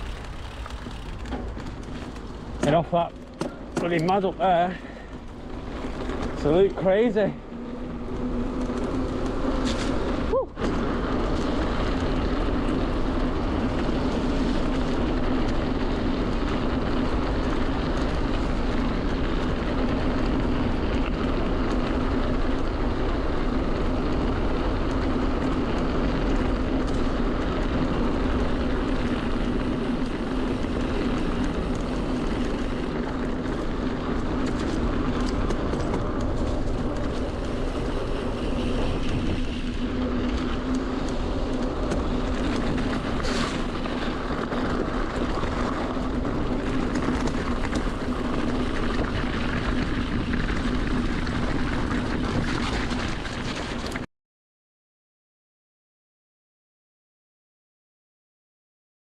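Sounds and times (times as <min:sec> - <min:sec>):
tyre noise: 0:00.0 - 0:54.0
wind noise: 0:00.0 - 0:54.0.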